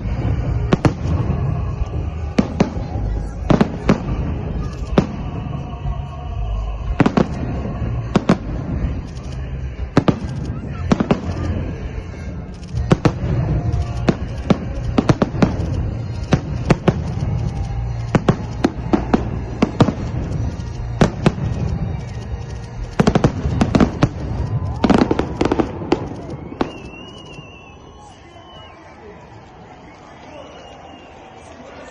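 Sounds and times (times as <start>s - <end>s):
fireworks bangs: 0.0s - 29.8s.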